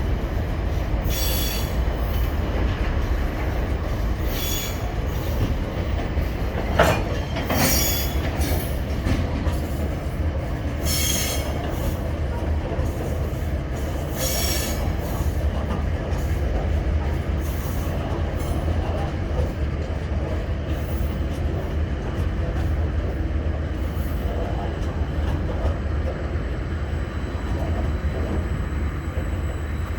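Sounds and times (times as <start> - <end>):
train rumbling on track: 0.0 - 29.9.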